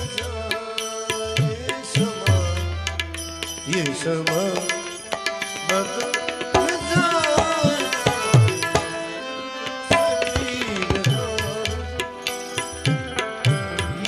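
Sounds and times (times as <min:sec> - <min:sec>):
melodic instrumental accompaniment: 0:00.0 - 0:14.0
tabla playing: 0:00.0 - 0:14.0.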